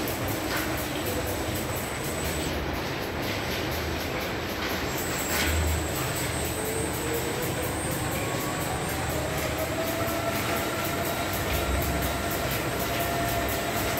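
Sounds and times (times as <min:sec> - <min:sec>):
faint machine whine: 0:00.0 - 0:13.9
pumps and motors humming: 0:00.0 - 0:13.9.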